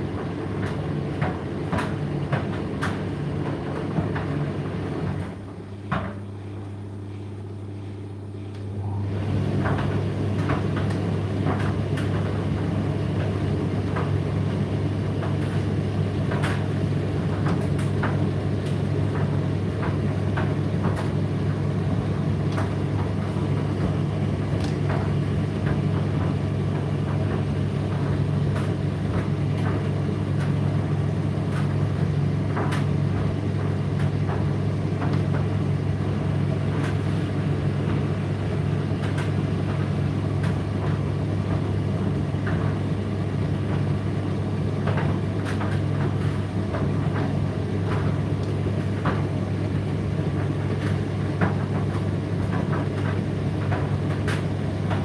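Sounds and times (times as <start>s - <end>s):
tumble dryer humming: 0.0s - 55.0s.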